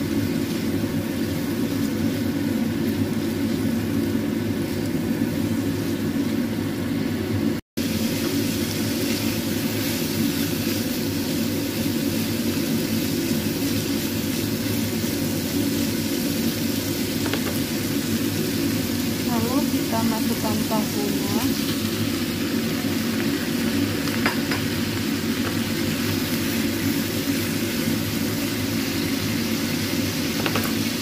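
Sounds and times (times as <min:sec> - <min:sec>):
food sizzling in frying pan: 0:00.0 - 0:31.0.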